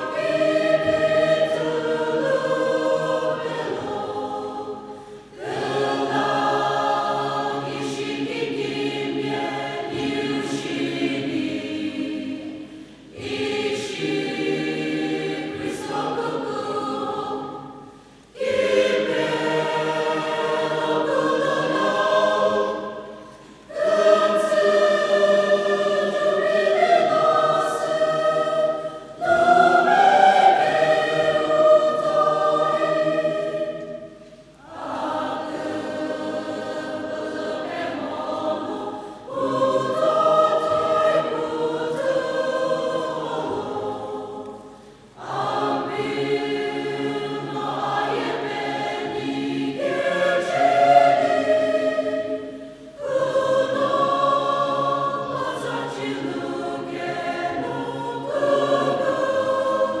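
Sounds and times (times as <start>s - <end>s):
church choir singing: 0.0s - 60.0s.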